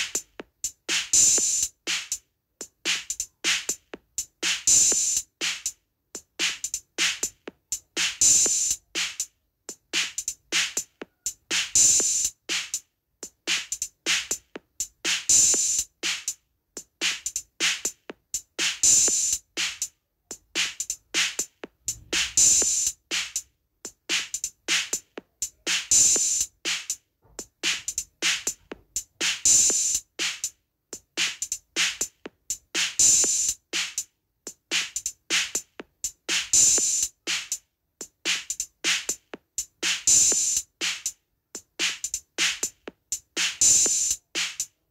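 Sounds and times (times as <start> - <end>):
drums playing dance rhythm: 0.0 - 44.9.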